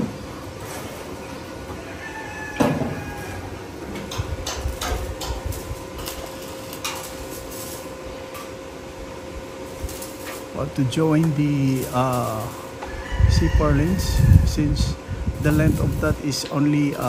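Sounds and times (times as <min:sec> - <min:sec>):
steady hum: 0:02.8 - 0:17.0.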